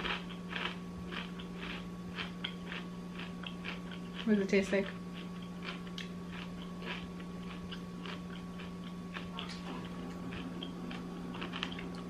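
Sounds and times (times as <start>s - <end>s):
person chewing crunchy food: 0.0s - 12.0s
steady low hum: 0.0s - 12.0s.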